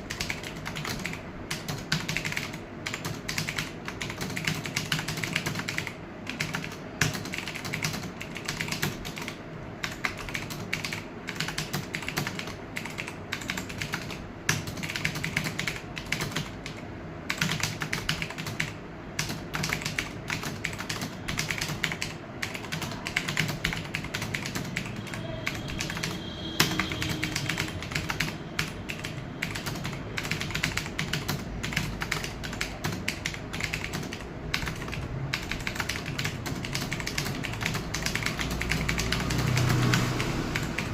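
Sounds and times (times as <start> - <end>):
computer keyboard typing: 0.0 - 40.9.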